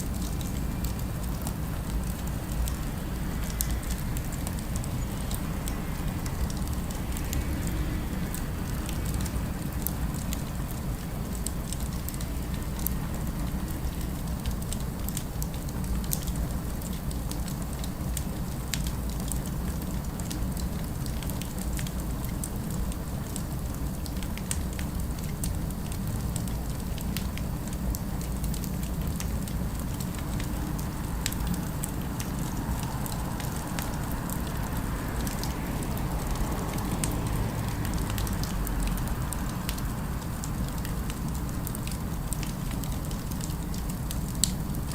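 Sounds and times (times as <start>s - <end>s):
low rumble of city ambience: 0.0s - 44.9s.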